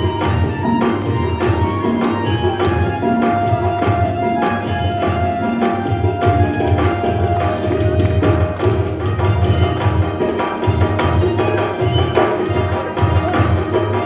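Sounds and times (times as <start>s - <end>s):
background music with drums: 0.0s - 14.0s.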